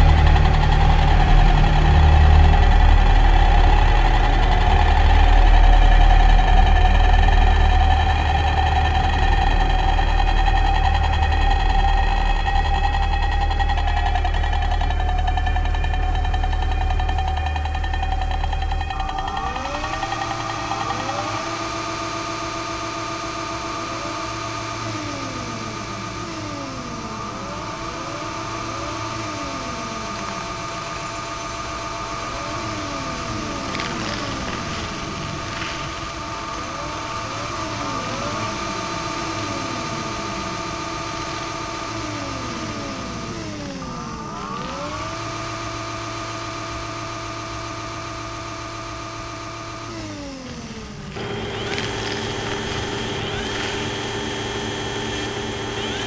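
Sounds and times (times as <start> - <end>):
crane hoist motors whining: 0.0 - 56.0
low hum: 0.0 - 56.0.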